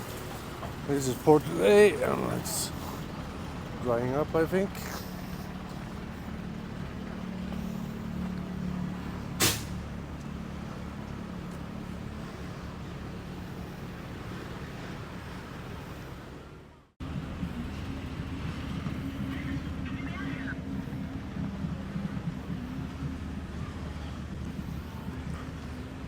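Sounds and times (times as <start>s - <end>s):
low hum of vehicle engines: 0.0s - 26.0s.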